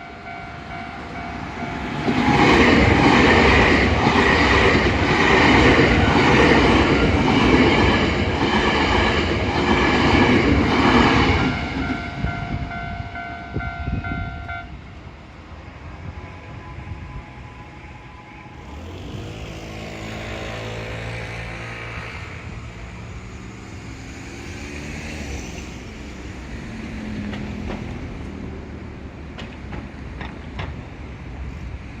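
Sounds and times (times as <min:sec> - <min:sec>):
electric train rumble: 0:00.0 - 0:32.0.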